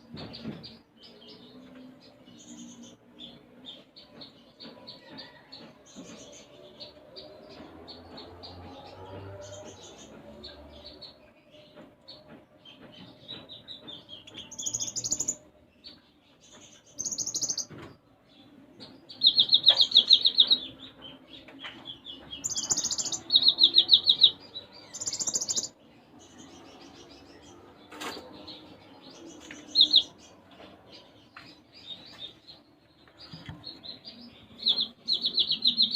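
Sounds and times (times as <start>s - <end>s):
songbird chirping trills: 0.4s - 17.8s, 18.4s - 35.9s.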